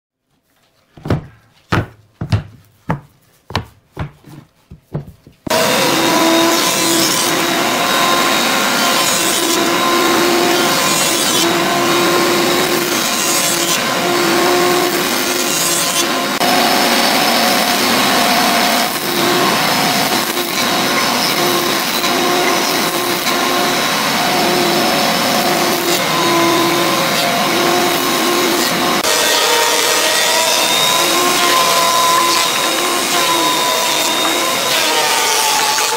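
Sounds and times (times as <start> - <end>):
jointer planing boards: 1.0 - 35.9.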